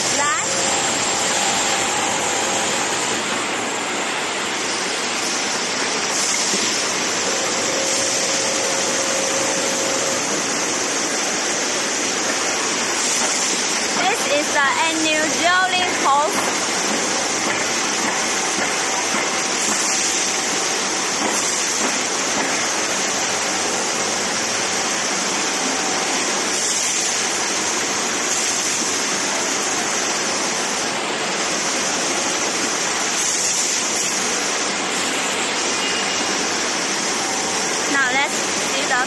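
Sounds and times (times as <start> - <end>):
drilling machine rushing hiss: 0.0 - 39.0.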